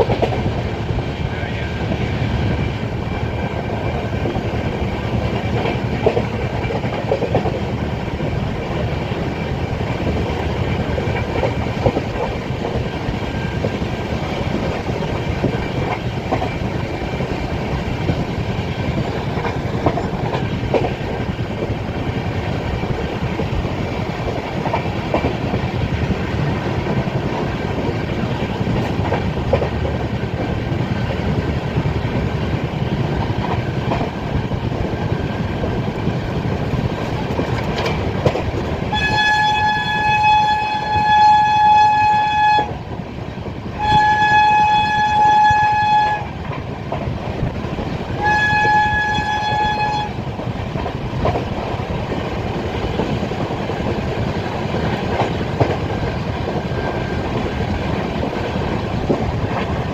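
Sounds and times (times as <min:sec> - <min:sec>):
train wheels rumbling on rail: 0:00.0 - 0:59.9
wheels clicking over rail joints: 0:00.0 - 0:59.9.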